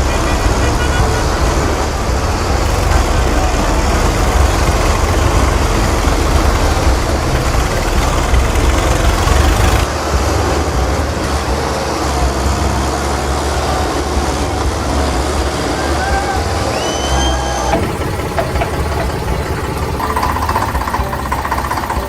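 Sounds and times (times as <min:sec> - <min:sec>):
loud steady rumbling: 0:00.0 - 0:22.0.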